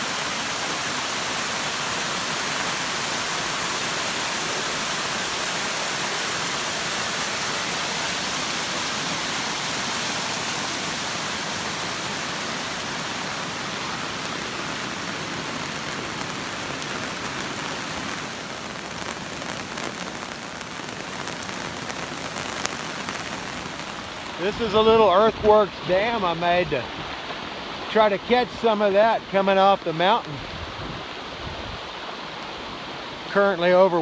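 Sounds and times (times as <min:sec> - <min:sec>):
rain falling: 0:00.0 - 0:34.0.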